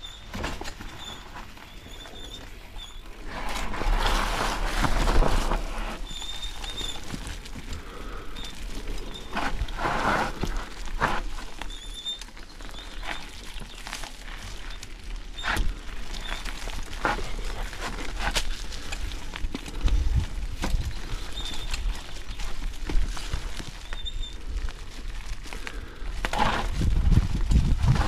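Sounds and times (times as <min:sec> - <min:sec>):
bike rattling and knocking: 0:00.0 - 0:28.0
tyres crunching over dirt and leaves: 0:00.0 - 0:28.0.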